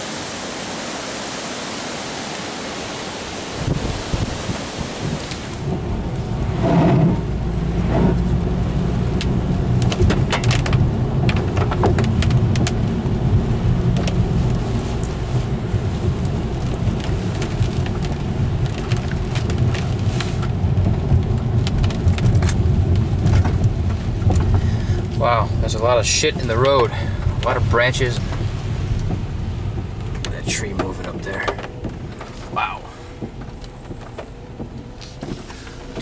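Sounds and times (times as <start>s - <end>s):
car engine humming: 0.0s - 36.0s
wind and rain: 0.0s - 36.0s.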